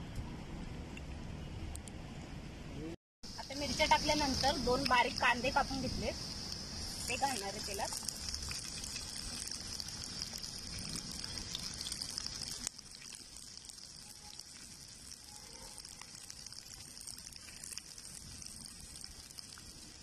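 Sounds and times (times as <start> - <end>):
onions sizzling in hot oil: 3.3 - 20.0.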